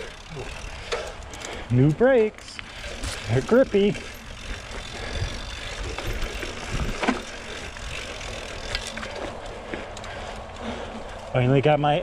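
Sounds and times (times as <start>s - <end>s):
mountain bike rattling over dirt: 0.0s - 12.0s
bike knocking on bumps: 0.8s - 11.1s.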